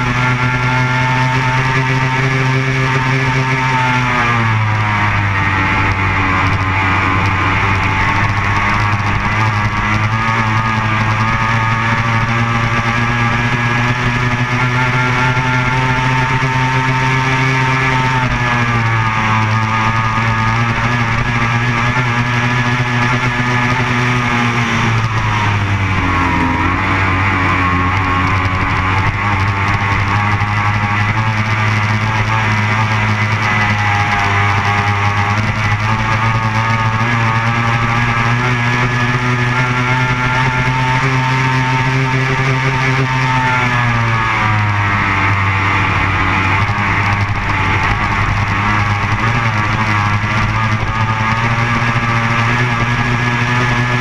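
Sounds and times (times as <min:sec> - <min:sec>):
powerboat engine at high revs: 0:00.0 - 0:54.0.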